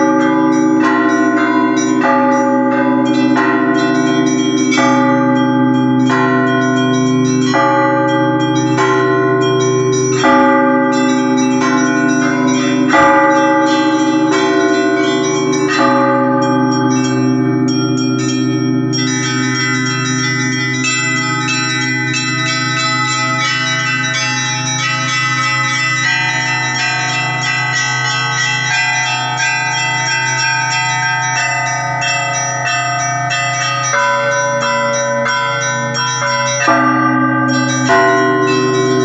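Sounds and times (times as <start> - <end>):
deep bell humming: 0.0 - 39.0
small high bells ringing: 0.0 - 39.0.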